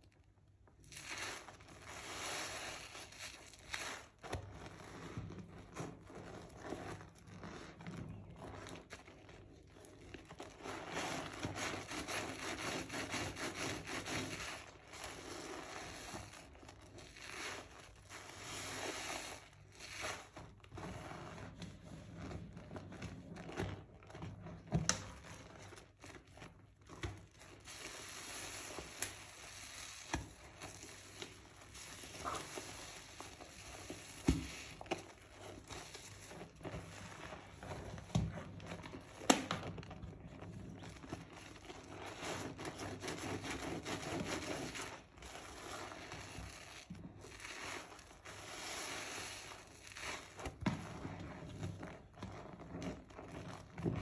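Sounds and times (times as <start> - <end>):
hands squishing wet soap: 0.1 - 54.0.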